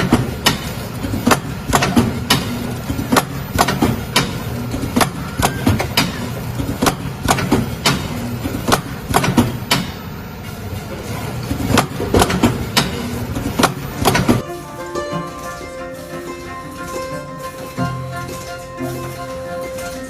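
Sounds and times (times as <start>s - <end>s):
machine clacking: 0.0s - 20.0s
packing machine humming: 0.0s - 20.0s.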